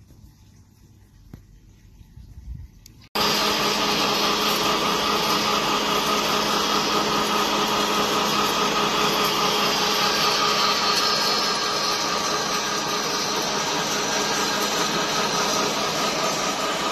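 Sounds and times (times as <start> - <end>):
pellet mill humming: 3.2 - 16.9.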